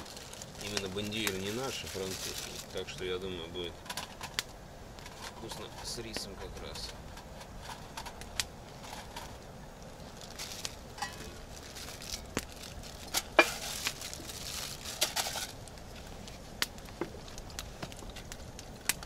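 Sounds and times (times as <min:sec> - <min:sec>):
campfire crackling and popping: 0:00.0 - 0:19.0
rustling: 0:00.0 - 0:19.0.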